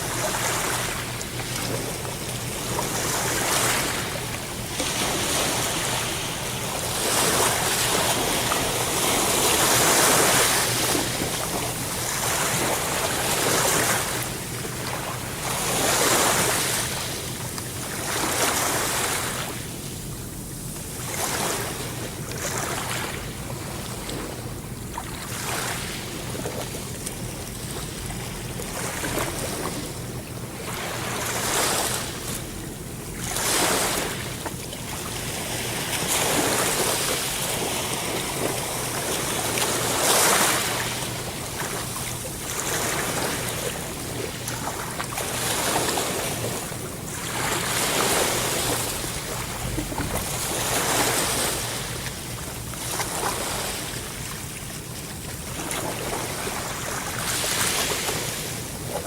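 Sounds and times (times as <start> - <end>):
sea waves breaking on shore: 0.0 - 19.9, 20.5 - 59.0.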